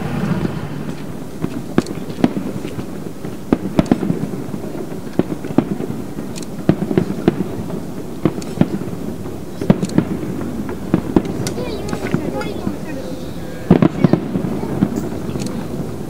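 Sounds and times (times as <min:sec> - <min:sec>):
fireworks bangs: 0:00.0 - 0:16.0
low background din: 0:00.0 - 0:16.0.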